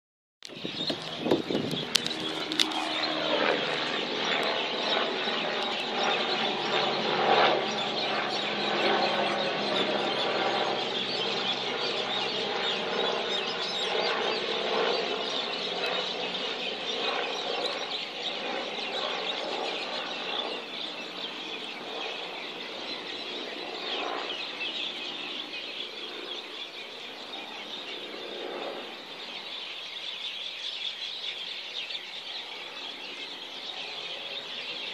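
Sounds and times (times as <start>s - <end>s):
helicopter flying over: 0.4s - 34.9s.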